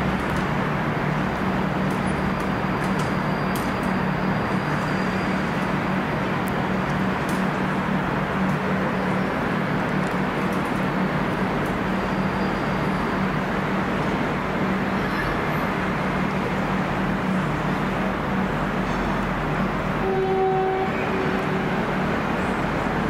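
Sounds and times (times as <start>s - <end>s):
diesel locomotive idling: 0.0s - 23.0s.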